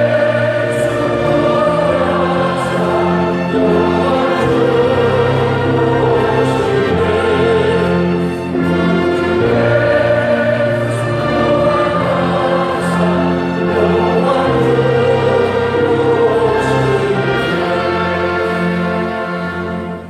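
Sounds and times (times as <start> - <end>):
choir singing a hymn: 0.0 - 20.0
instrumental accompaniment: 0.0 - 20.0.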